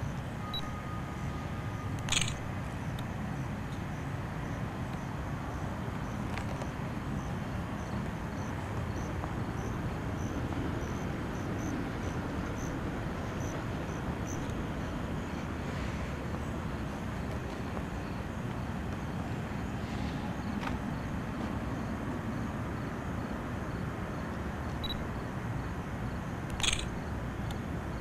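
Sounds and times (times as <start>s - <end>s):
cricket chirping faintly: 0.0s - 28.0s.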